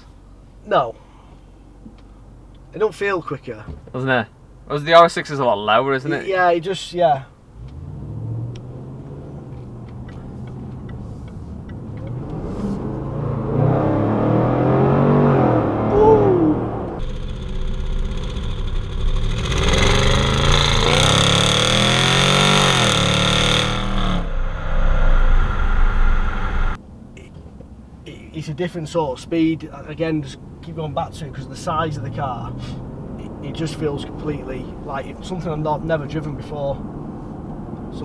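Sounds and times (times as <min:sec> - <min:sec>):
car engine accelerating: 0:07.5 - 0:38.0.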